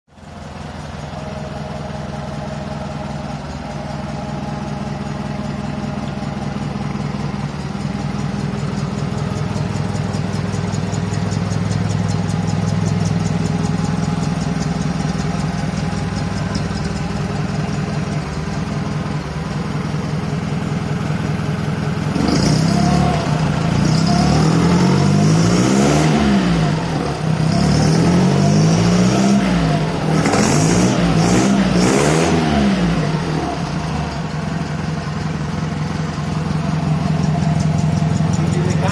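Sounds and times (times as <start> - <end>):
petrol engine idling and revving: 0.1 - 38.9.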